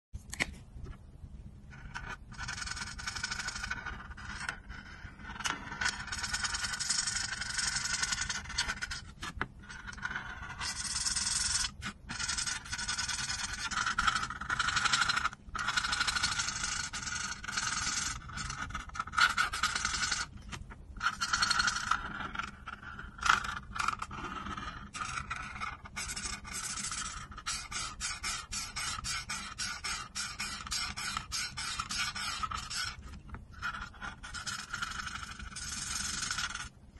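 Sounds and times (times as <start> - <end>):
marker scratching on paper: 1.7 - 36.7.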